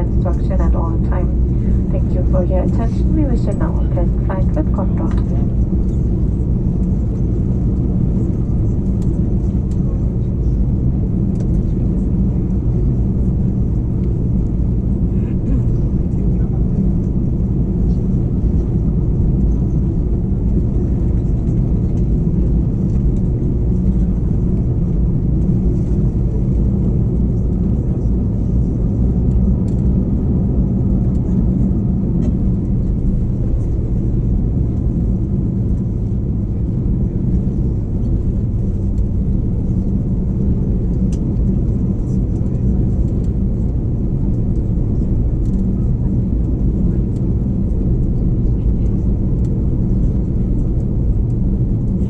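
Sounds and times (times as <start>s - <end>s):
aircraft cabin low rumble: 0.0s - 52.0s.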